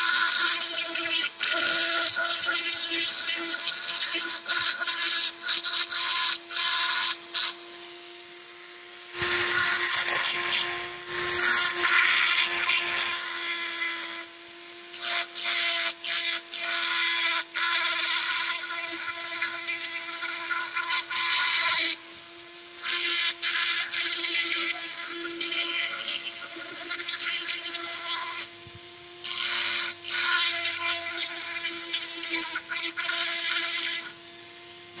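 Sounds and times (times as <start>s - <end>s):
bit grinding into wood: 0.0s - 7.9s, 9.0s - 22.0s, 22.8s - 35.0s
rotary tool motor whine: 0.0s - 35.0s.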